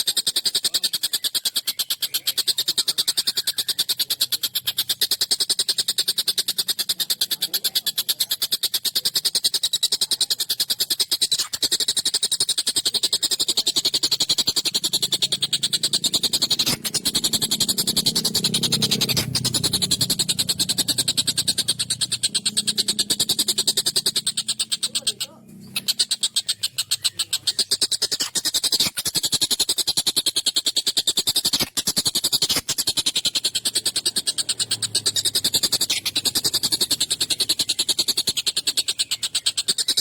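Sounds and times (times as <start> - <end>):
kingfisher rattling call: 0.0 - 40.0.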